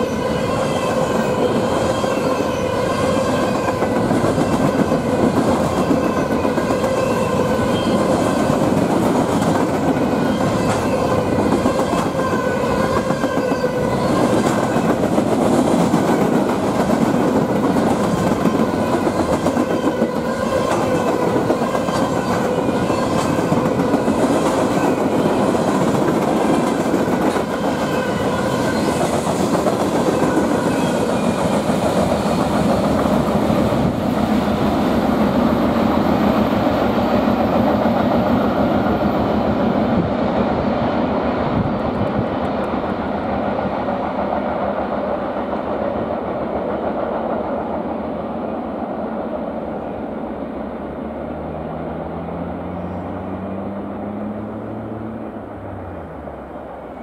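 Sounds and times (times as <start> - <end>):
train cars rolling on tracks: 0.0 - 57.0.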